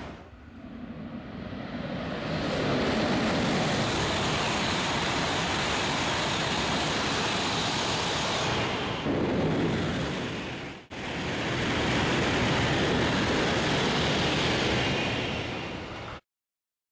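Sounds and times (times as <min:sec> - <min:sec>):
high-speed train passing: 0:00.0 - 0:16.2.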